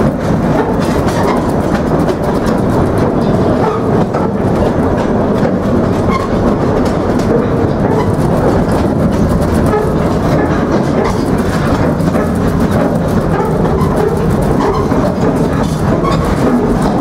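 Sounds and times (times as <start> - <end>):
train cars rattling: 0.0 - 17.0
train rumbling on track: 0.0 - 17.0
wheel clacks: 0.0 - 17.0.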